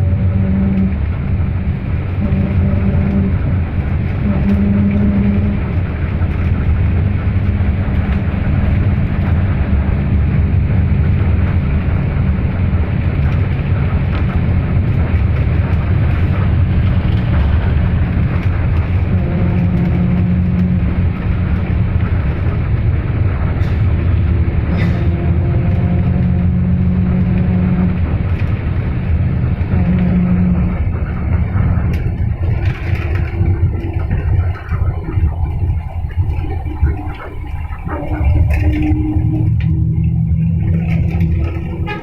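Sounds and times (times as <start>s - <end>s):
road and wind noise: 0.0s - 42.0s
vehicle engine rumble: 0.0s - 42.0s.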